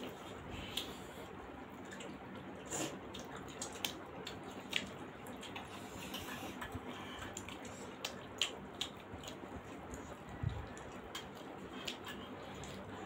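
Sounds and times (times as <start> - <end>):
mouth smacks and chewing: 0.0 - 13.0.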